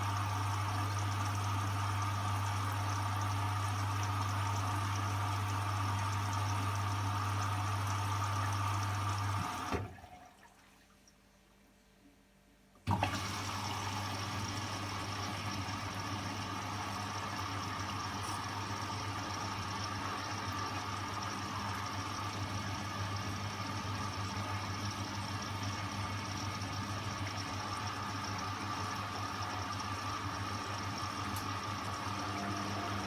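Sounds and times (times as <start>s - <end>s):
washing machine humming: 0.0s - 11.1s, 12.8s - 33.0s.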